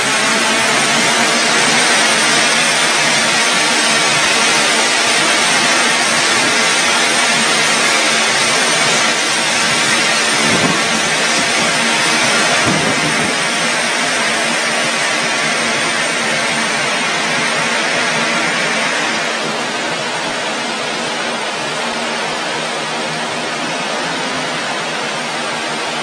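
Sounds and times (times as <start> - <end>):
engine roaring: 0.0 - 26.0.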